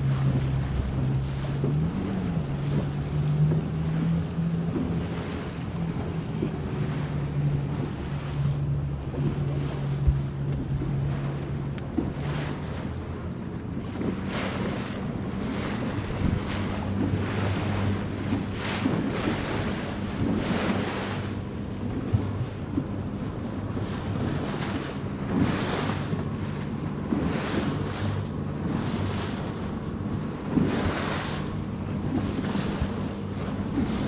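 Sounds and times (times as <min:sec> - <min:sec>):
boat engine running low: 0:00.0 - 0:34.0
water lapping against hull: 0:00.0 - 0:34.0
wind buffeting microphone: 0:00.0 - 0:34.0.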